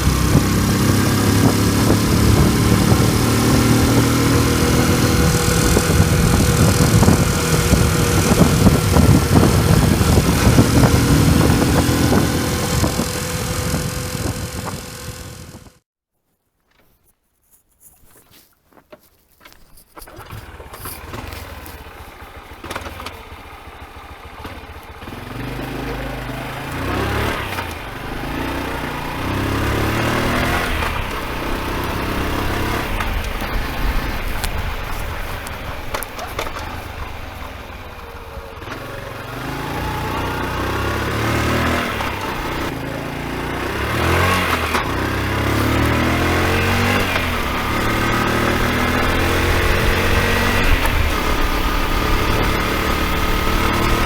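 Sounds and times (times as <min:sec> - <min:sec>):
motorcycle engine revving: 0:00.0 - 0:15.8, 0:20.0 - 0:54.0.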